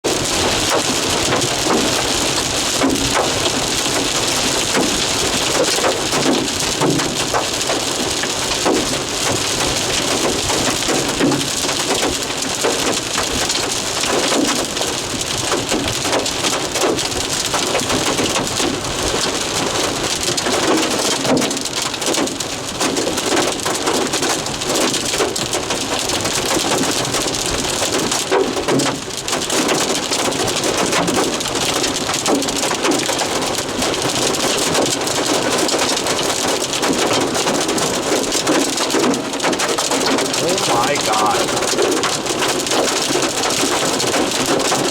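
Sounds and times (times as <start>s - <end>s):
hail and rain pelting: 0.1s - 44.9s.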